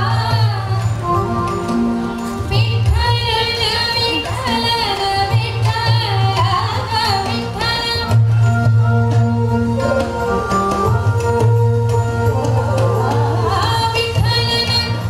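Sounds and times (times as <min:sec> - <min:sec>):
woman singing: 0:00.0 - 0:01.2, 0:02.5 - 0:08.3, 0:09.8 - 0:15.0
held instrumental accompaniment: 0:00.0 - 0:15.0.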